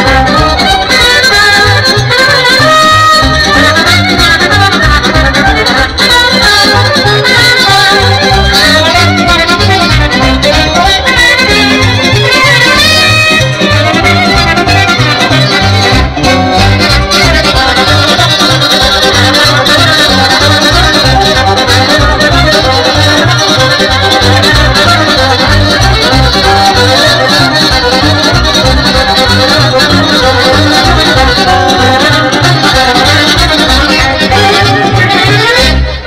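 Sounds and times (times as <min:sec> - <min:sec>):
accordion: 0:00.0 - 0:36.0
steady bass beat: 0:00.0 - 0:36.0
violin: 0:00.0 - 0:36.0.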